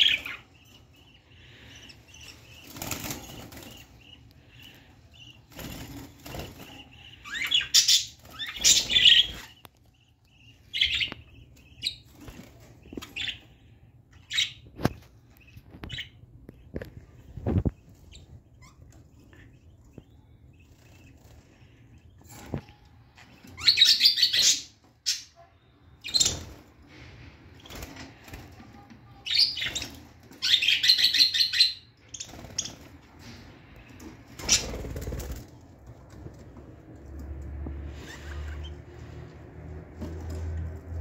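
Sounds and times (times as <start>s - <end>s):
budgerigars chirping and chattering: 0.0s - 25.4s, 26.0s - 35.5s, 37.9s - 39.2s.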